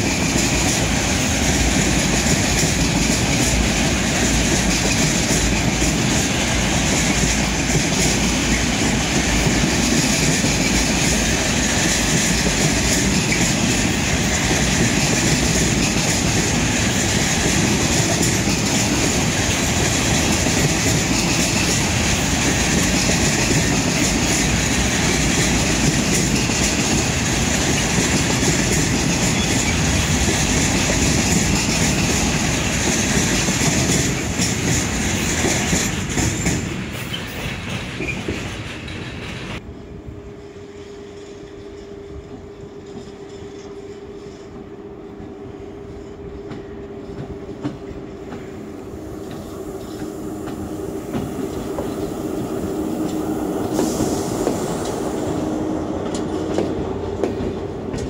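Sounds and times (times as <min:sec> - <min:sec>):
train wheels rolling on rail: 0:00.0 - 0:58.0.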